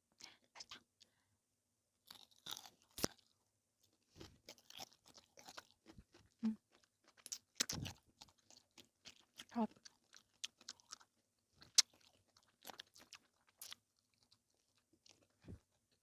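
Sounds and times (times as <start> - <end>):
person chewing crisp food: 2.0 - 16.0.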